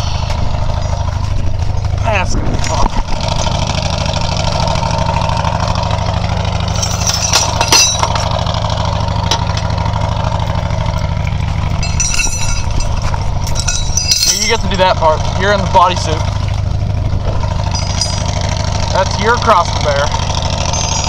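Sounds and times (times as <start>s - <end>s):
vehicle engine idling: 0.0s - 21.0s
tow chains clinking: 3.2s - 21.0s.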